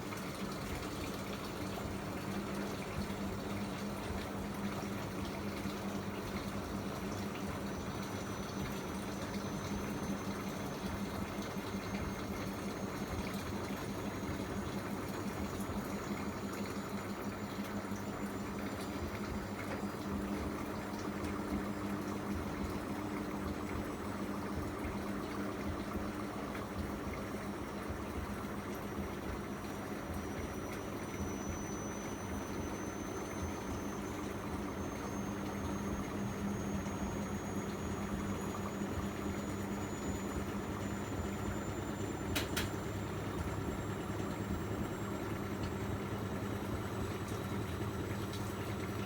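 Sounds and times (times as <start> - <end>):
washing machine humming: 0.0 - 49.0
water sloshing inside machine: 0.0 - 49.0.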